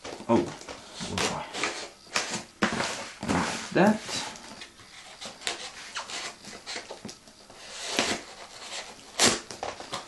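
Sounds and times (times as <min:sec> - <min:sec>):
cardboard rubbing and scraping: 0:00.9 - 0:04.2, 0:04.9 - 0:10.0.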